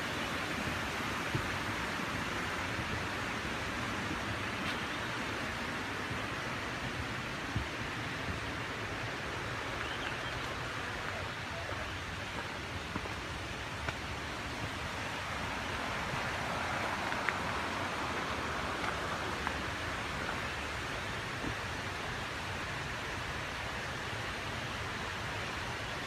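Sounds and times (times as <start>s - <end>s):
creek rushing: 0.0s - 26.0s.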